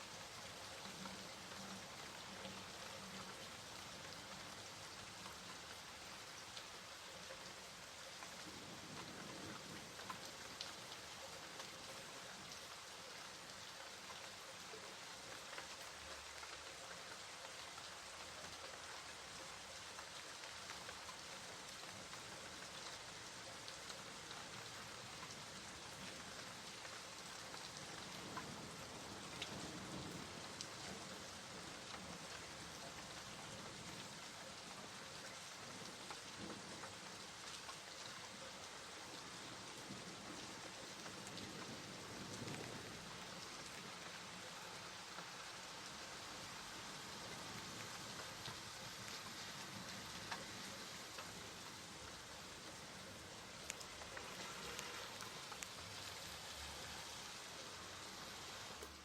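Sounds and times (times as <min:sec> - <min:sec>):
steady rain on a surface: 0:00.0 - 0:59.0.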